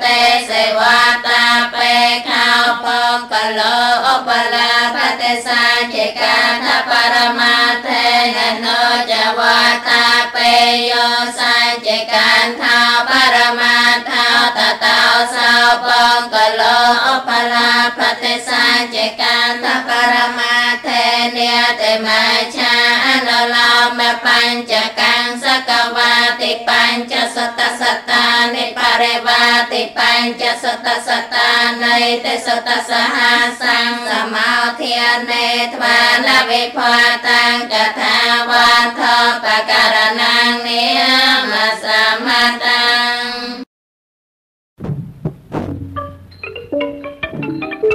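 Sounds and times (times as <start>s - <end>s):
woman chanting scripture: 0.0s - 43.6s.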